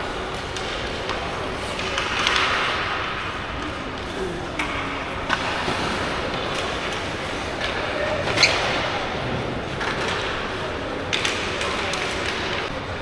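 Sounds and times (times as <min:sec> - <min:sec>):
faint voices: 0:00.9 - 0:13.0.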